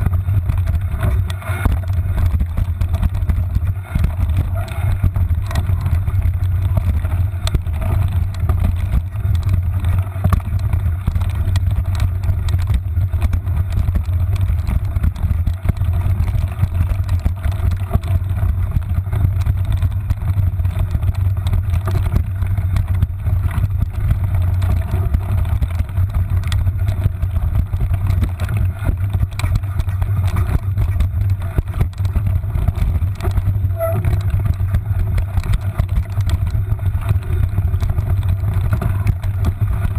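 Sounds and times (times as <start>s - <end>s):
bike rattling and knocking: 0.0s - 39.9s
tyre and frame rumble: 0.0s - 39.9s.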